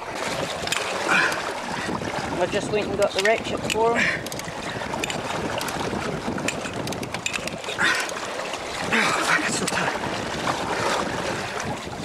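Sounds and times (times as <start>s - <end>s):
sea and wind rushing: 0.0s - 12.0s.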